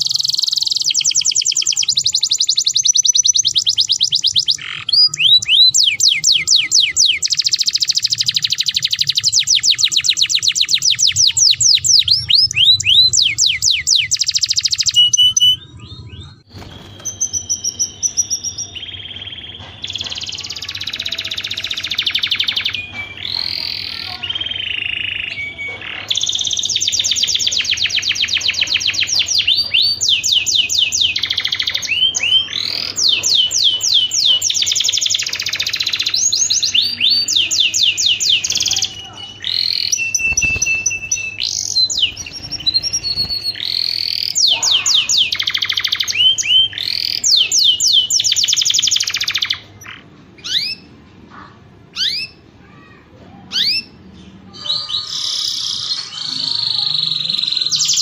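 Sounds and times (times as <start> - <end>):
canary singing trills: 0.0 - 52.9, 53.5 - 58.0.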